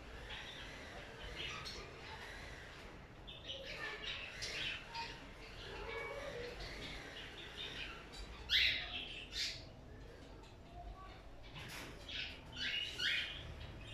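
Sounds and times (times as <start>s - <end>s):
caged birds chirping: 0.0s - 13.9s.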